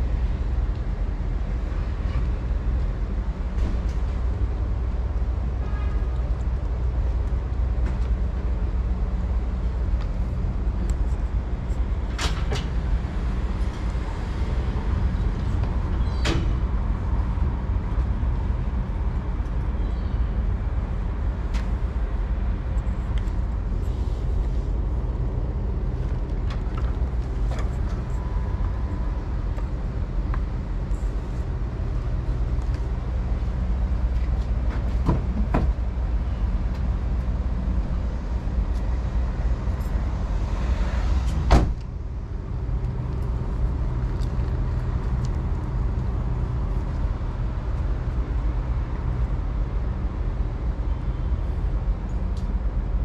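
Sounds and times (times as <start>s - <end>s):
low rumble of street traffic: 0.0s - 53.0s.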